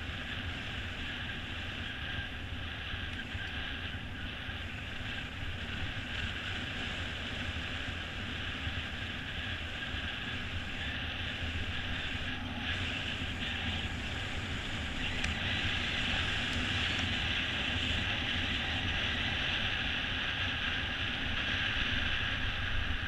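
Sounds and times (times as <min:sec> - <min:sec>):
bike tyres humming on road: 0:00.0 - 0:23.0
wind rushing on microphone: 0:00.0 - 0:23.0.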